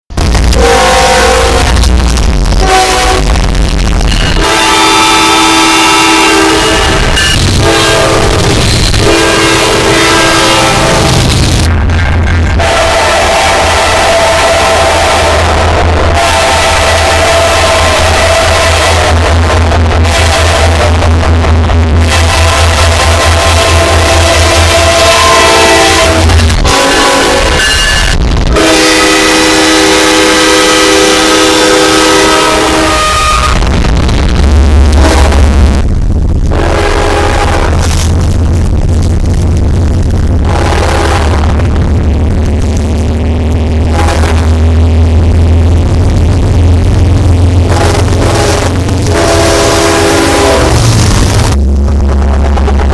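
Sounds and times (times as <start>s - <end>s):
loud distorted rumble: 0.0s - 52.9s
distorted train horn blasts: 0.1s - 52.9s.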